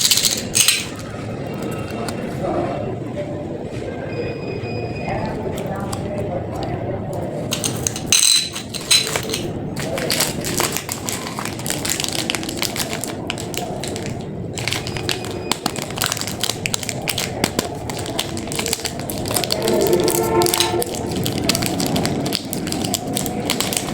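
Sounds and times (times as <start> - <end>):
candy packaging crackling: 0.0 - 2.5, 5.2 - 23.9
steady background noise: 0.0 - 23.9.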